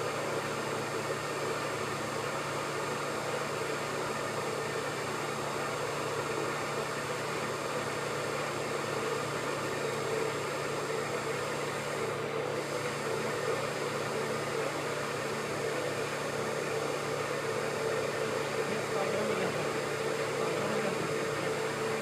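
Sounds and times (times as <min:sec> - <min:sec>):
pug mill humming and hissing: 0:00.0 - 0:22.0.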